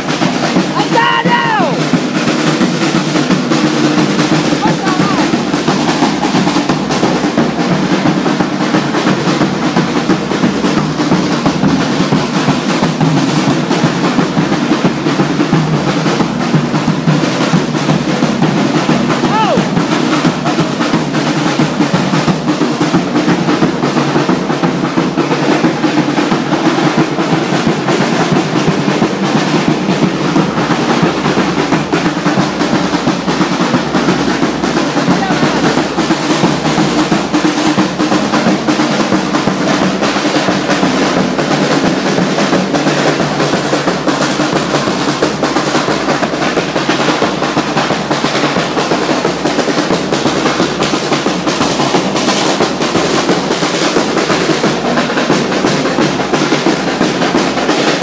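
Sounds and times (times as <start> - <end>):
fast rolling street drumming: 0.0 - 58.0.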